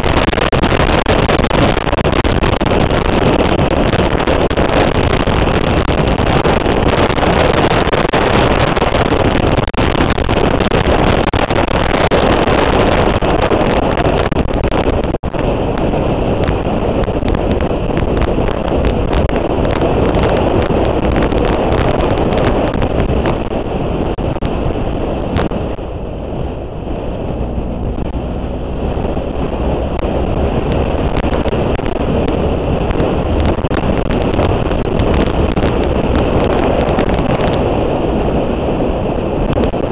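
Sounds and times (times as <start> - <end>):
motorcycle engine: 0.0 - 39.9
wind noise on microphone: 0.0 - 39.9.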